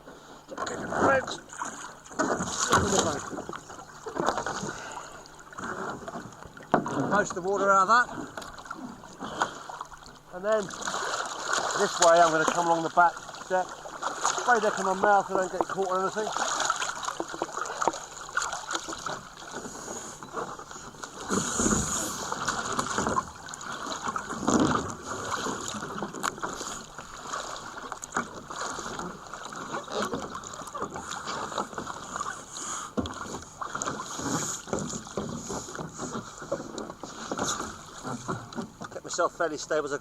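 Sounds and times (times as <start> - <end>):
water splashing against kayak: 0.0 - 40.0.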